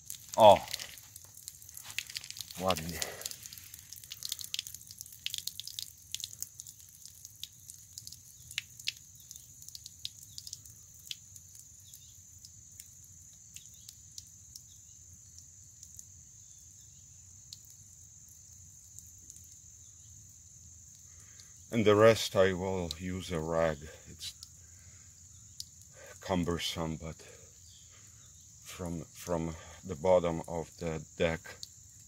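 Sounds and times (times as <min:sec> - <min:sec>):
insect chorus: 0:00.0 - 0:32.0
water dripping onto pavement: 0:00.0 - 0:32.0.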